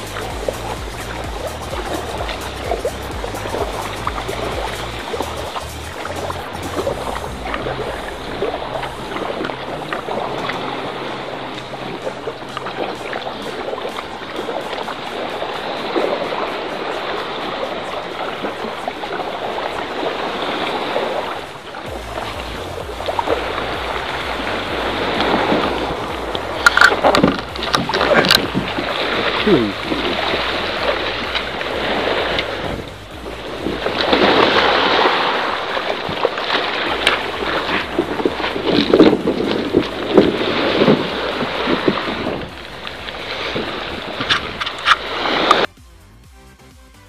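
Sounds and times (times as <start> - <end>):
water lapping against kayak hull: 0.0 - 45.7
wind rushing over microphone: 0.0 - 45.7.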